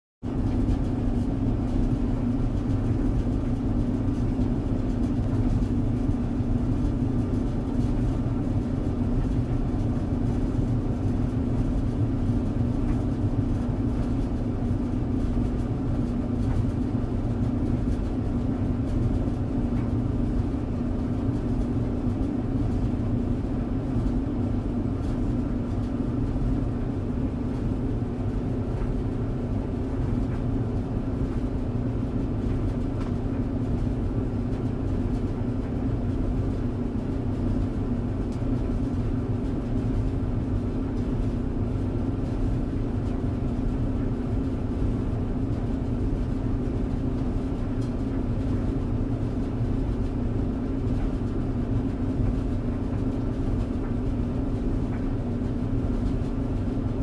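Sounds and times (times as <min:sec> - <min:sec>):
clothes dryer running: 0:00.2 - 0:57.0.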